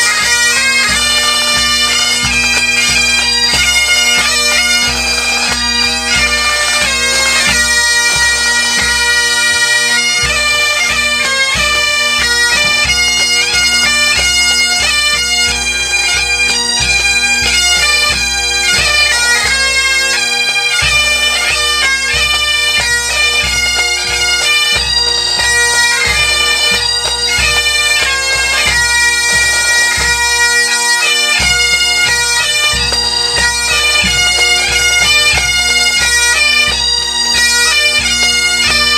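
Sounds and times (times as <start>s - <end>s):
drums beating: 0.0s - 30.4s, 31.1s - 38.9s
bagpipes with drones: 0.0s - 38.9s.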